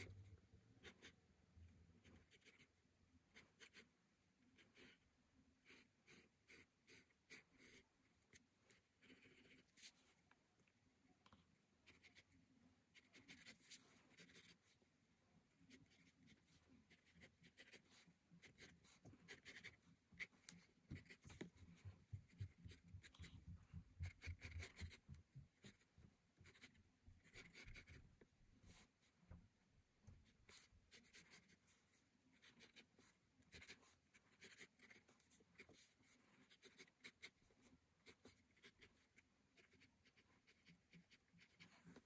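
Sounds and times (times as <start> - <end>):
pencil scratching on paper: 0.0 - 1.2, 2.0 - 3.9, 4.5 - 5.0, 5.6 - 10.2, 11.8 - 14.8, 15.6 - 28.0, 30.2 - 42.0.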